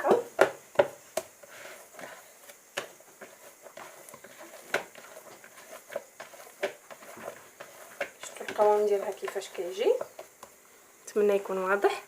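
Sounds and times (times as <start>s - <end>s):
hands handling sticky dough: 0.3s - 10.6s.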